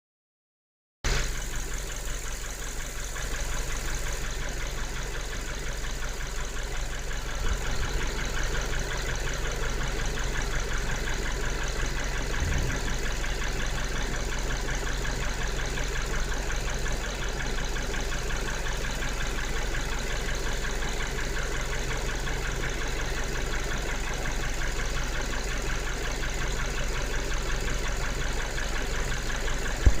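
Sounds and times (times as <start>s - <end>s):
engine idling: 1.1s - 30.0s.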